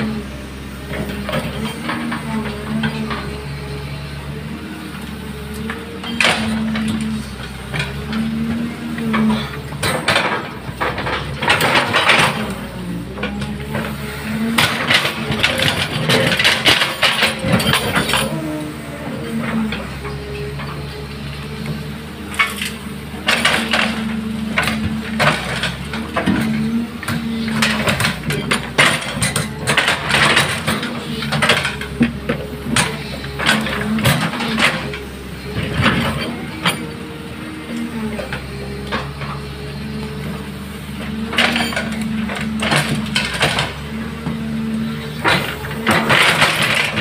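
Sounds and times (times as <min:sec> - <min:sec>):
excavator engine running: 0:00.0 - 0:47.0
soil and stones clattering into truck bed: 0:06.0 - 0:21.0, 0:22.4 - 0:37.0, 0:38.1 - 0:47.0.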